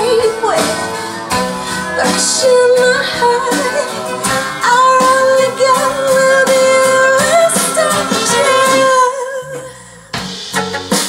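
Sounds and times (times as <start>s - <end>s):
woman singing: 0.0s - 0.9s, 1.7s - 9.9s
guitar: 0.0s - 11.0s
rock song over loudspeakers: 0.0s - 11.0s.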